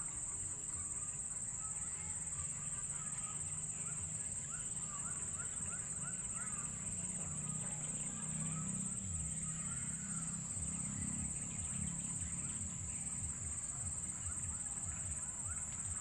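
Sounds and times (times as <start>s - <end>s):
crickets chirping: 0.0s - 16.0s
faint bird chirps: 0.0s - 16.0s.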